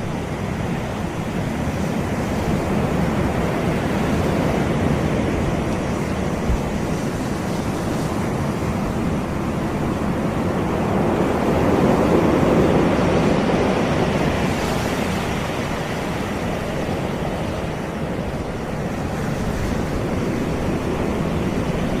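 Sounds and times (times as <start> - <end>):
sea surf washing on shore: 0.0 - 22.0
wind rumble on microphone: 0.0 - 22.0.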